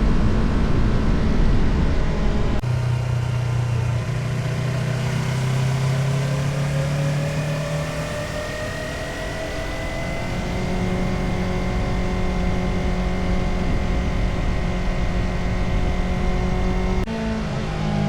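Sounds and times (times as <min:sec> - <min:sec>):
motorcycle engine running: 0:00.0 - 0:17.7.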